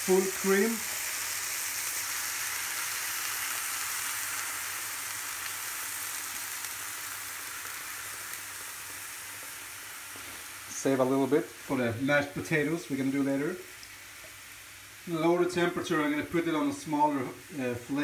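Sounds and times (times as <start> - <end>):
onions sizzling in a frying pan: 0.0 - 18.0.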